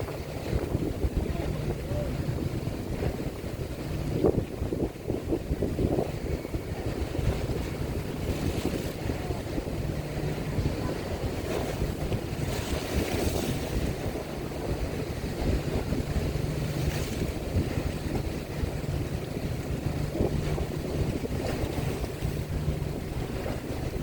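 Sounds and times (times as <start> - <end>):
ferry engines humming: 0.0 - 24.0
wind buffeting microphone: 0.0 - 24.0.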